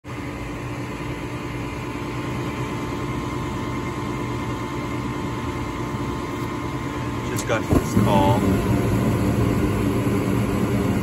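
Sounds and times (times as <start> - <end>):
furnace inducer motor humming: 0.0 - 11.0.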